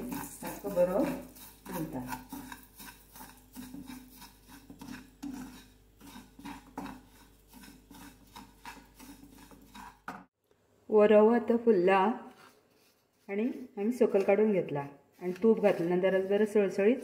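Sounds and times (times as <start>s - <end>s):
wooden spatula scraping pan: 0.0s - 10.3s, 12.2s - 17.0s.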